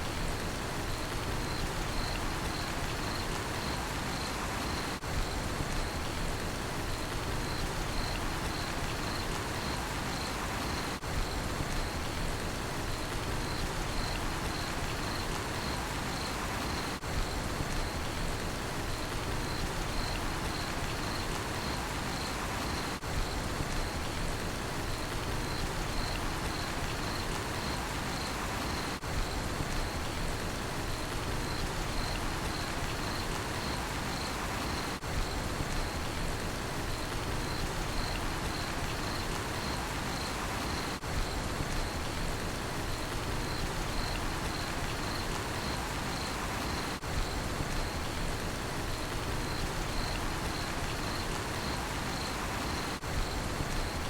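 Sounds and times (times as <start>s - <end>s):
steady rain falling: 0.0s - 54.0s
cricket chirping: 0.8s - 6.2s, 6.9s - 12.1s, 12.9s - 18.2s, 18.9s - 24.2s, 24.8s - 30.2s, 31.3s - 36.2s, 36.8s - 42.2s, 42.8s - 54.0s.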